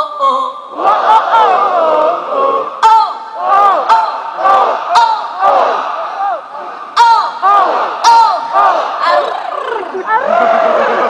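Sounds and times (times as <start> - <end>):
large crowd chanting and singing: 0.7 - 11.0.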